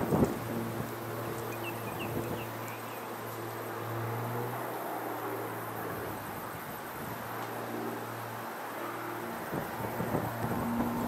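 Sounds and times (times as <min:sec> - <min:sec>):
distant propeller plane droning: 0:00.0 - 0:11.0.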